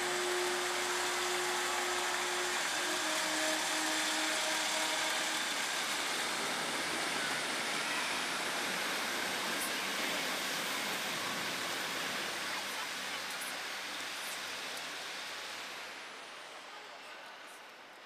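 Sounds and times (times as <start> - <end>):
diesel train engines running past: 0.0 - 18.0.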